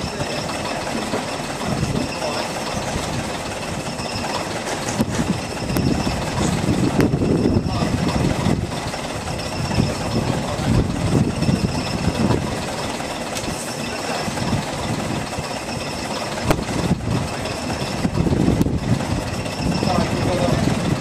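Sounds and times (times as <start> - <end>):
crane engine idling: 0.0 - 21.0.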